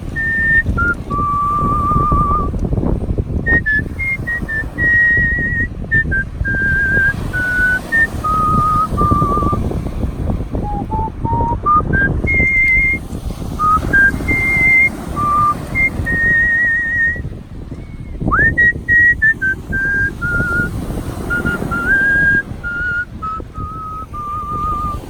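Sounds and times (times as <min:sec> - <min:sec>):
person whistling a melody: 0:00.1 - 0:02.6, 0:03.5 - 0:09.6, 0:10.6 - 0:13.0, 0:13.6 - 0:17.3, 0:18.0 - 0:25.0.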